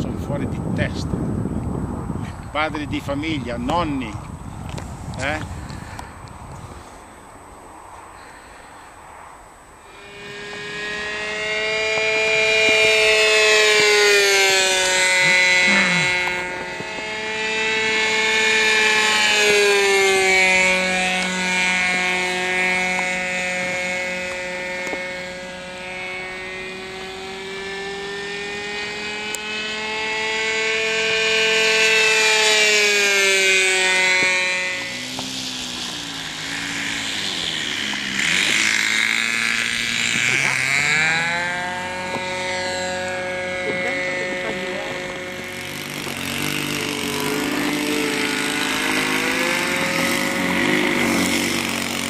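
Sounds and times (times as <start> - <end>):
model plane motor and propeller: 0.0 - 7.5, 8.1 - 52.0.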